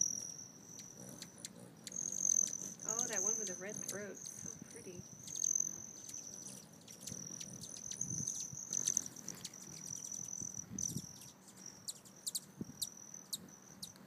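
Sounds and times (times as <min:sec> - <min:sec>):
hummingbird whistling trill: 0:00.0 - 0:14.0.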